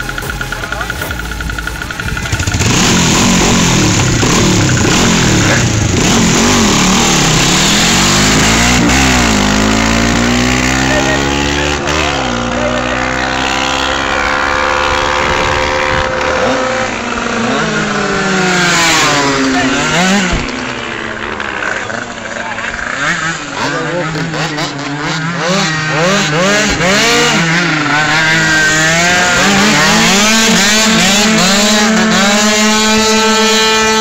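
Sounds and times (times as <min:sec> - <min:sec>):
scooter engine revving: 0:00.0 - 0:34.0.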